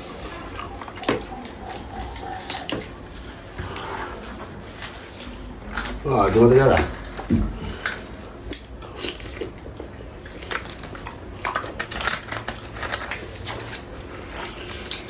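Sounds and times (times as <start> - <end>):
chewing and crunching bones: 0.0 - 15.0.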